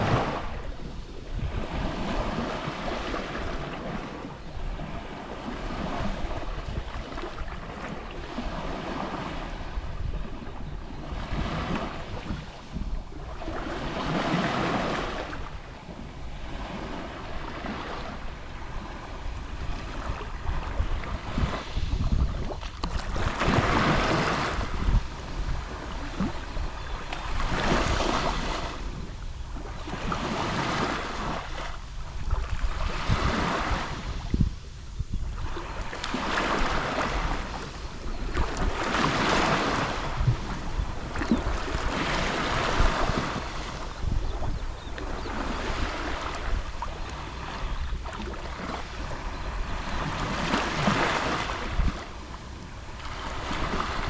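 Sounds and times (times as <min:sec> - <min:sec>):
waves lapping on shore: 0:00.0 - 0:54.0.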